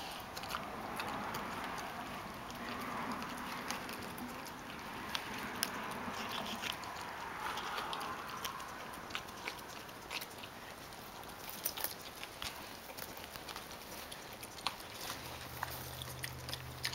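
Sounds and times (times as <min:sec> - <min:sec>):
pig chewing: 0:00.0 - 0:16.9.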